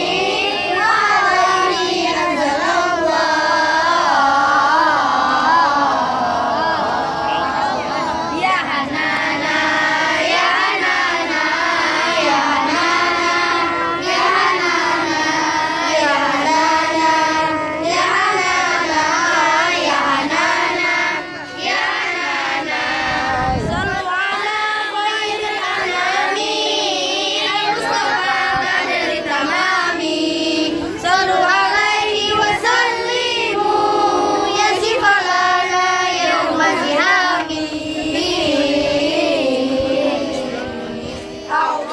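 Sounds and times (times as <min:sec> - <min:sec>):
children singing: 0:00.0 - 0:41.9.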